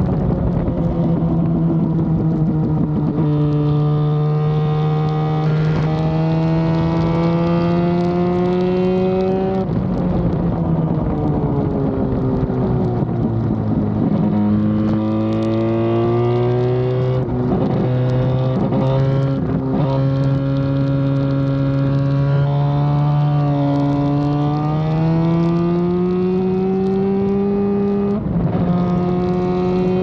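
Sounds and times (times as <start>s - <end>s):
rotary racing engine revving: 0.5s - 9.8s, 13.2s - 30.0s.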